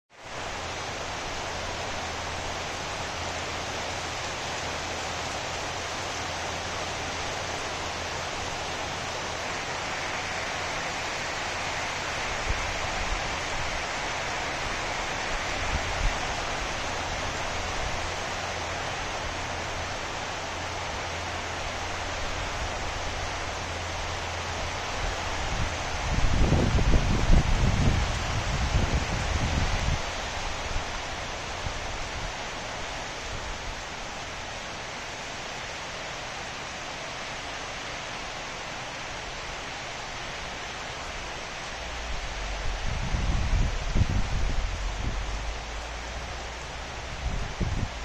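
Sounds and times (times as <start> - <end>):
heavy rain on foliage: 0.1 - 48.0.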